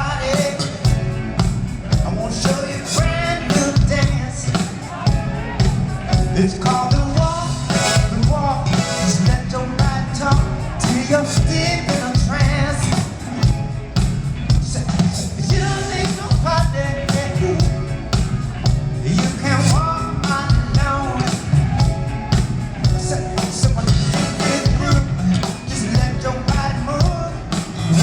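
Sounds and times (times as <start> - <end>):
live funk band playing: 0.0 - 28.0
person singing: 1.9 - 13.8, 14.5 - 28.0
horn lines: 2.1 - 14.0, 15.5 - 28.0.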